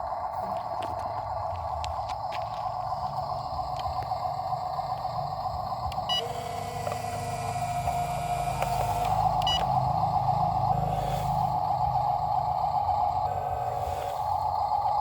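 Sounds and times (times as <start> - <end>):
excavator engine rumble and whine: 0.0 - 15.0.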